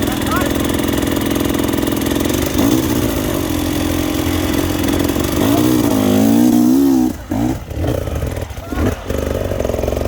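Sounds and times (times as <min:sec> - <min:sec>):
two-stroke dirt bike engine: 0:00.0 - 0:10.0.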